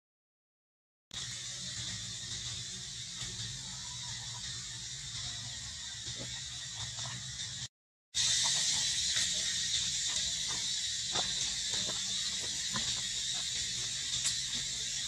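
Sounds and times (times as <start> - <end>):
insect drone: 1.2 - 15.0.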